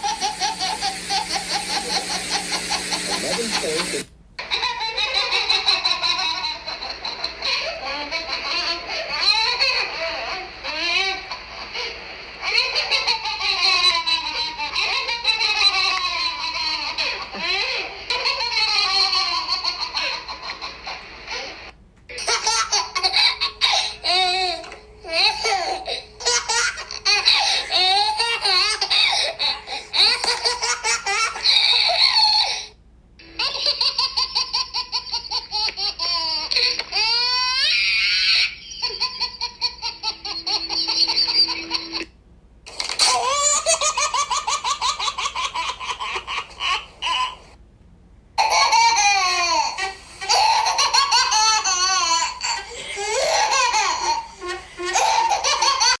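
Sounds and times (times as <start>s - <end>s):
baby laughing: 0.0s - 32.7s, 33.3s - 42.1s, 42.7s - 47.6s, 48.4s - 56.0s.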